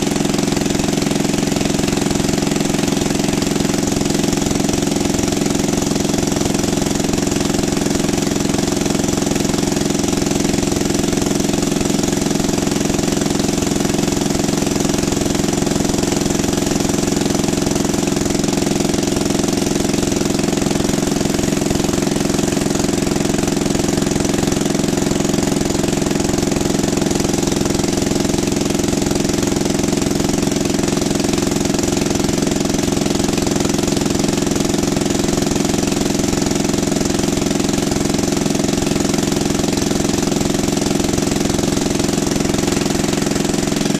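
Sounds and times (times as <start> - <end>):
generator engine running: 0.0 - 43.9.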